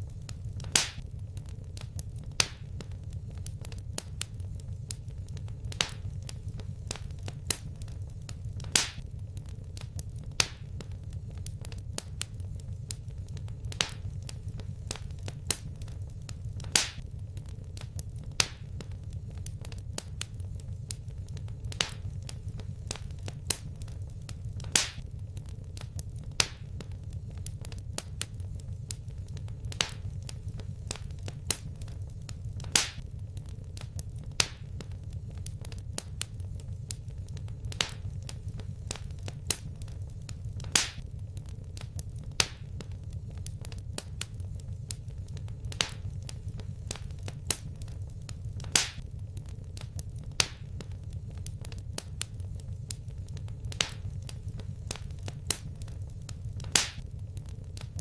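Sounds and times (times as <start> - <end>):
burning wood popping and snapping: 0.0 - 58.0
low rumble of flames: 0.0 - 58.0.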